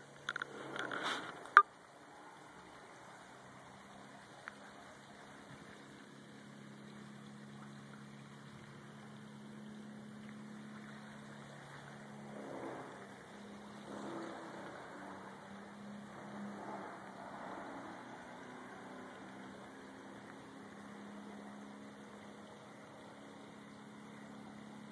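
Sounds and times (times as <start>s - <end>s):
low engine hum: 0.0s - 24.9s.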